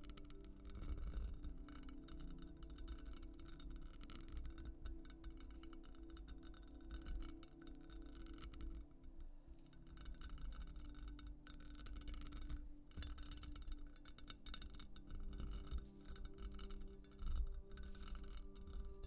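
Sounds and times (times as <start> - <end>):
scratching on textured glass: 0.0 - 19.0
soft musical drone: 0.0 - 19.0.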